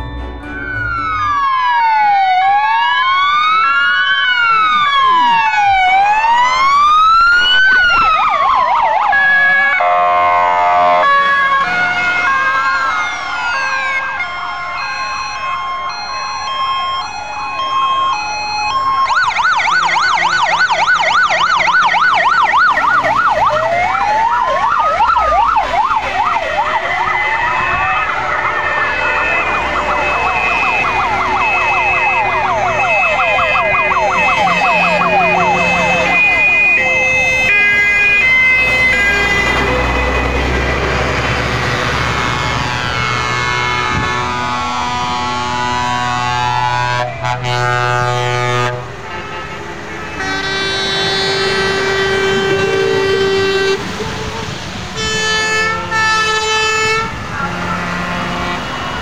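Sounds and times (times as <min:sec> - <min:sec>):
fire engine sirens: 0:00.0 - 0:59.0.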